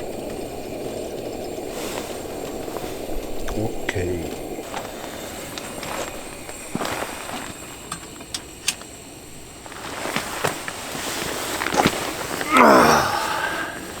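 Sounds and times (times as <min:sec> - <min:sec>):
steady hiss: 0:00.0 - 0:14.0
wood fire crackling: 0:00.0 - 0:14.0.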